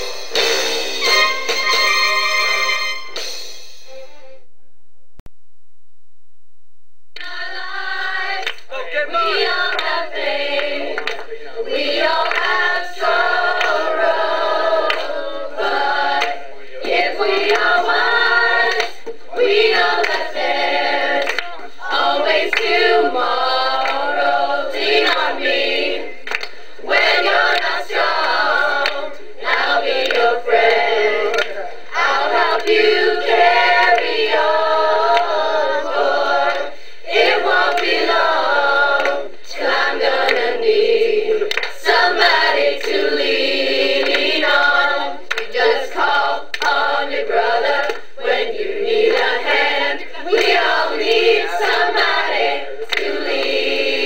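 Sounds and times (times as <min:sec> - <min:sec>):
choir singing: 0:00.0 - 0:03.2, 0:07.2 - 0:54.0.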